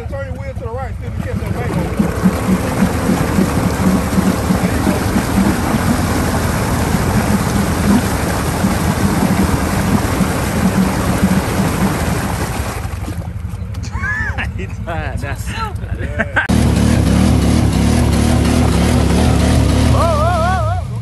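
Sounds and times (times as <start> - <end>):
mud and water splashing: 0.0 - 14.9, 16.5 - 21.0
atv engine revving: 0.0 - 21.0
tires churning through mud: 0.0 - 21.0.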